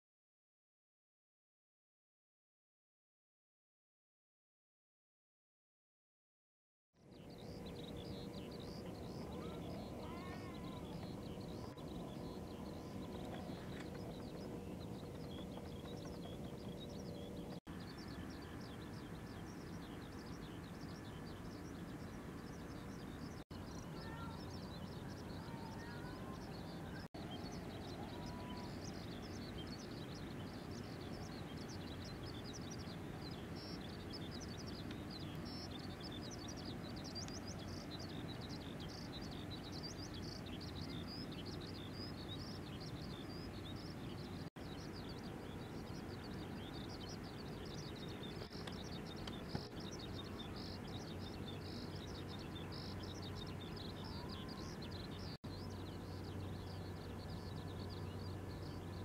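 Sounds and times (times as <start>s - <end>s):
small birds chirping: 7.0s - 59.0s
steady low rumble: 7.1s - 59.0s.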